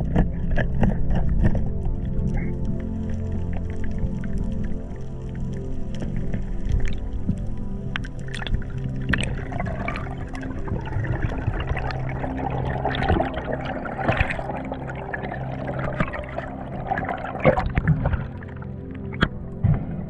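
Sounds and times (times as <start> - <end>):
water sloshing and gurgling: 0.0 - 20.0.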